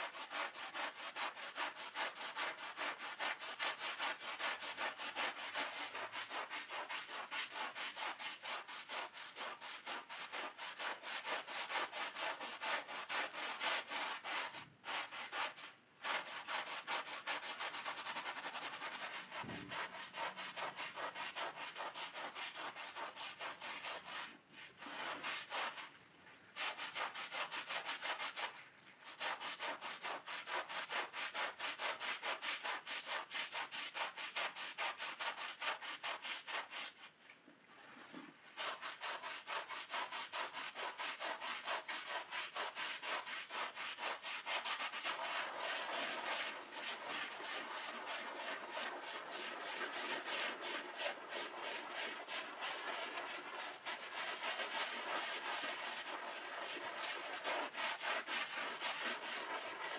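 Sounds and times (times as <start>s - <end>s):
brush scrubbing wet rug: 0.0s - 37.2s, 38.1s - 59.9s.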